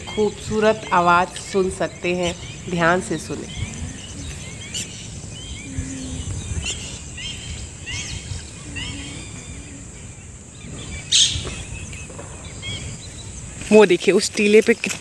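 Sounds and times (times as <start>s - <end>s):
steady low rumble: 0.0s - 13.7s
birds chirping: 0.0s - 15.0s.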